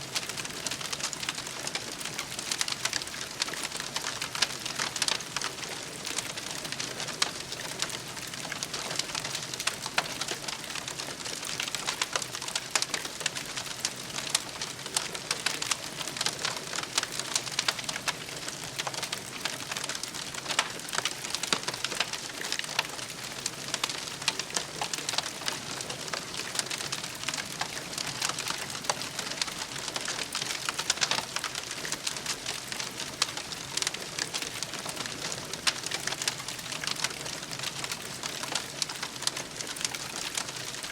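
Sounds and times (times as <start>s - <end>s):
campfire crackling and popping: 0.1s - 40.9s.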